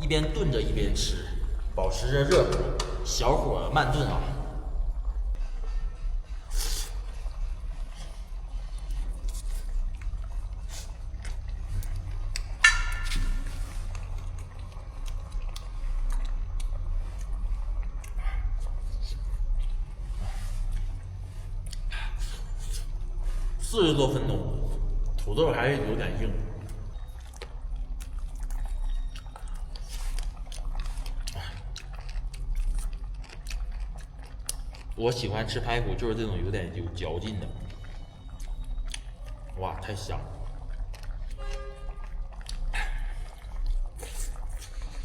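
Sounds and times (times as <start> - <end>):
pot simmering: 0.0 - 32.3, 33.8 - 45.0
steady low hum: 0.0 - 45.0
man chewing and crunching: 3.9 - 23.7, 24.6 - 36.1, 37.0 - 45.0.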